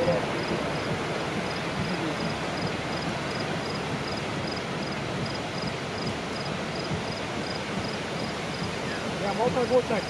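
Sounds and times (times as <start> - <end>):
insect chirping in pulses: 0.0 - 8.9
rushing wind: 0.0 - 10.0.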